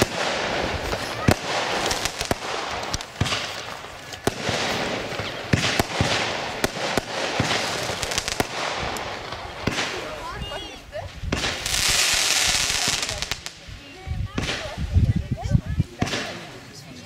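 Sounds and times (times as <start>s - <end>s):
firework bangs: 0.0s - 15.0s, 16.0s - 16.6s.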